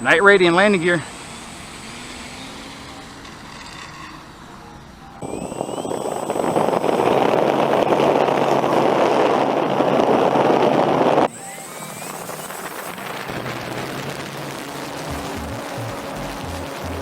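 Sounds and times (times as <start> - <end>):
electric motor and propeller drone: 0.0 - 17.0.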